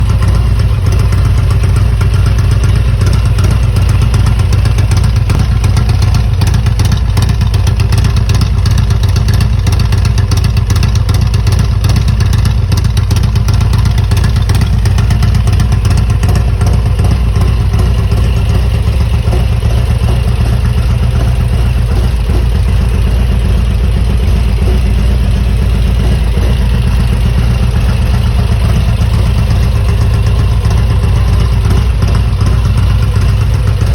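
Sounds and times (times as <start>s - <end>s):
motorcycle engine idling loudly: 0.0s - 33.9s.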